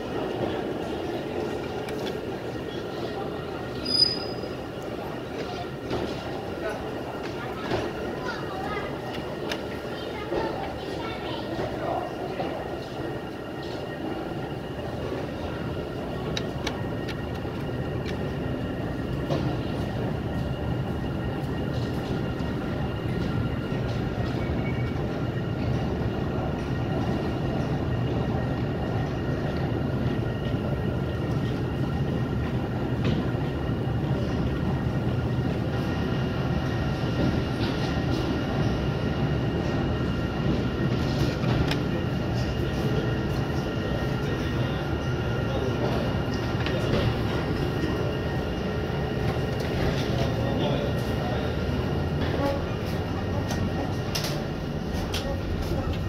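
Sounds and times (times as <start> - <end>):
elevator mechanical rumble: 0.0 - 56.0.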